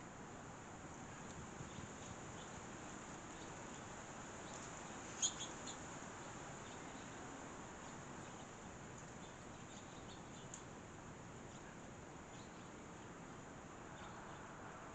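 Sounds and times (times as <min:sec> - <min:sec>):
low background hiss: 0:00.0 - 0:14.9
songbirds chirping: 0:00.0 - 0:14.9.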